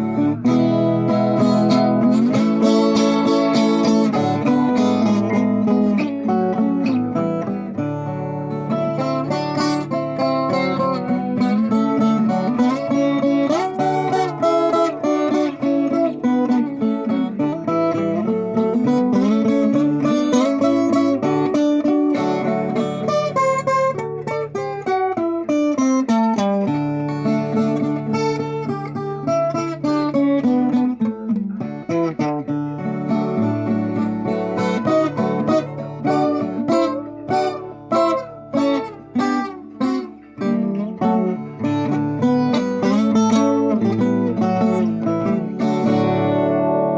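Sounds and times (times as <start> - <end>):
fingerpicked guitar notes: 0.0 - 46.9.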